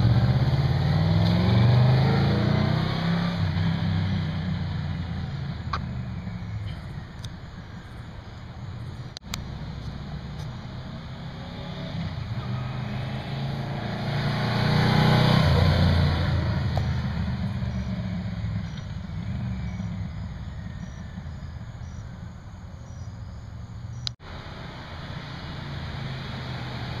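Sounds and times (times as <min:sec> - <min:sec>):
motorcycle engine passing by: 0:00.0 - 0:07.1, 0:09.5 - 0:27.0.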